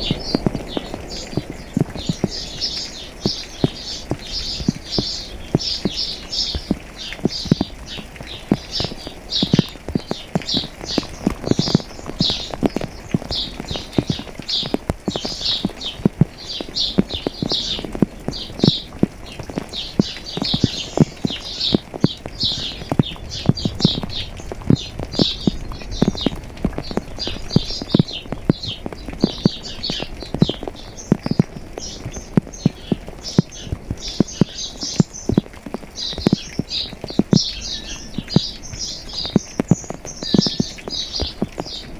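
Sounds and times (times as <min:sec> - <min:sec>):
birds chirping: 0:00.0 - 0:41.9
raindrops dripping and tapping: 0:00.0 - 0:41.9.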